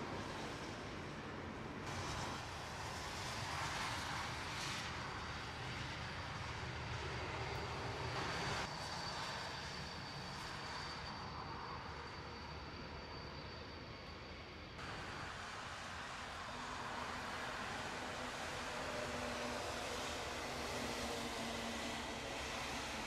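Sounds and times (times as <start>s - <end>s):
jet engines hissing: 0.0s - 23.0s.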